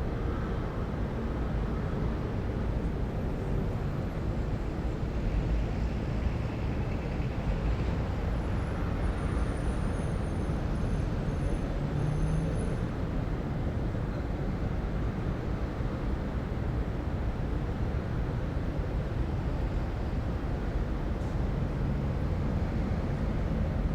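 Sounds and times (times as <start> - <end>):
rumble of traffic: 0.0 - 23.9.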